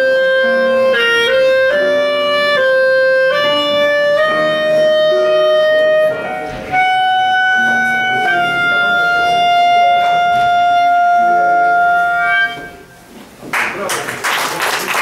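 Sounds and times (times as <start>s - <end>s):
melody instrument sustained notes: 0.0s - 13.1s
lower instrumental accompaniment: 0.0s - 13.3s.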